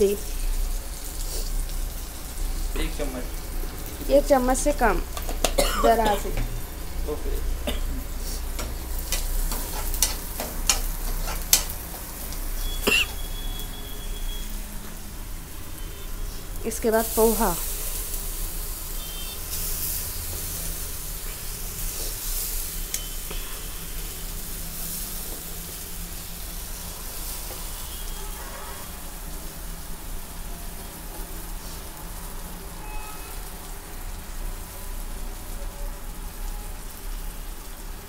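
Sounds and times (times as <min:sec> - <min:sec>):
oil sizzling in a pan: 0:00.0 - 0:38.0.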